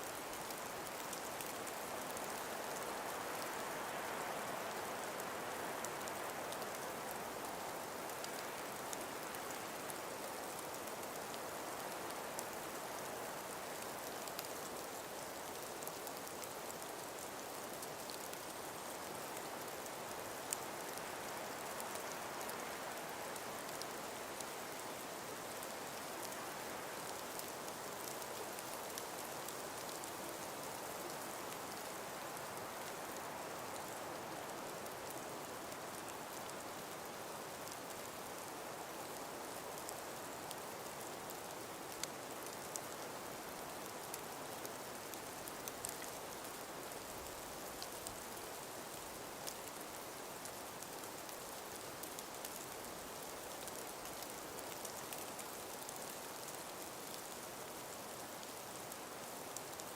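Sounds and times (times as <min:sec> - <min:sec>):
breeze through trees: 0:00.0 - 0:59.9
faint scattered ticks: 0:00.0 - 0:59.9.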